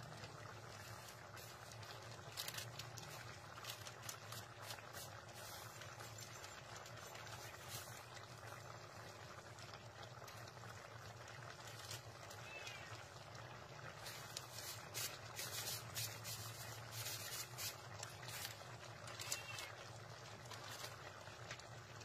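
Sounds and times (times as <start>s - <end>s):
stew bubbling in a pan: 0.0s - 22.0s.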